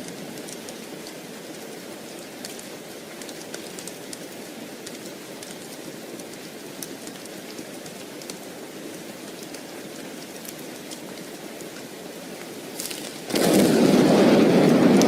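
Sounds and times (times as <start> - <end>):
small sharp ticks: 0.0 - 13.8
steady rain: 0.0 - 15.0.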